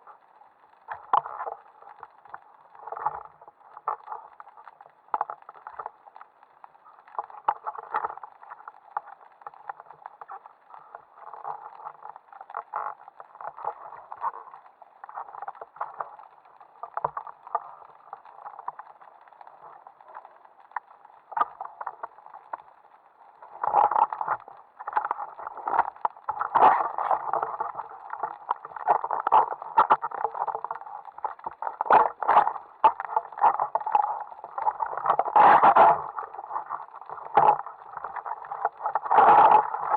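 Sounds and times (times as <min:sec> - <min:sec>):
underwater water movement: 0:00.0 - 0:39.9.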